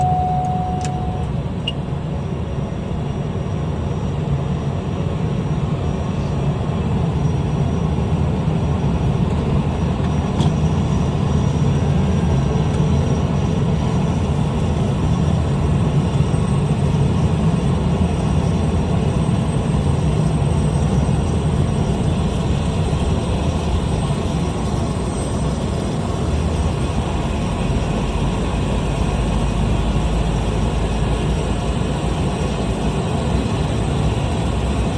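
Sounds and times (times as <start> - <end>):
small plane engine droning: 0.0 - 34.9.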